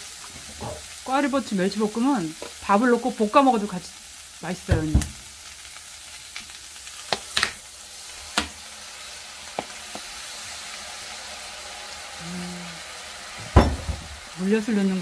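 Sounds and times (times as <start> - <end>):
peppers sizzling in a frying pan: 0.0 - 15.0.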